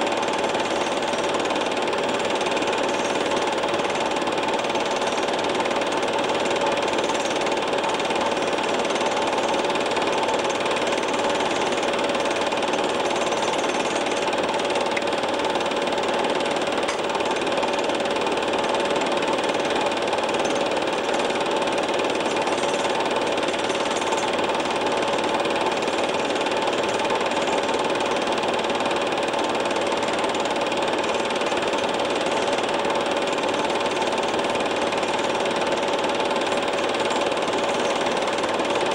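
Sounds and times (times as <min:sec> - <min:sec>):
film projector whirring and clattering: 0:00.0 - 0:38.9.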